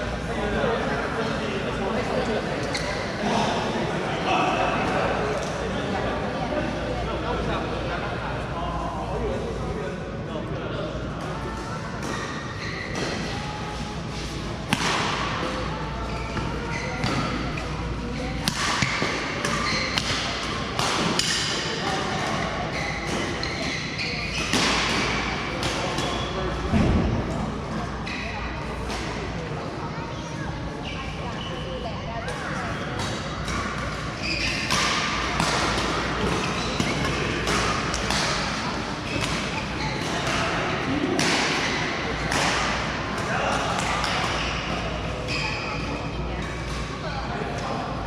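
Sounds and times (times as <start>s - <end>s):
background chatter: 0.0s - 48.0s
din of voices in a hall: 0.0s - 48.0s.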